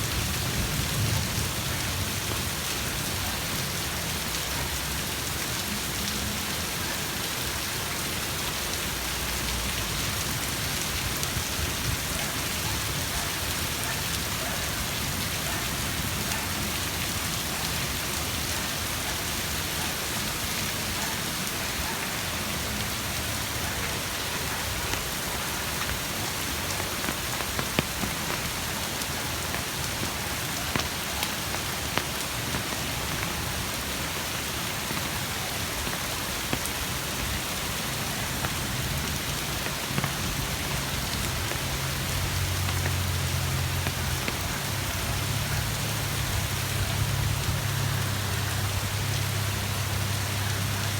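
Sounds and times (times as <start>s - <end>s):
rain falling steadily: 0.0s - 50.9s.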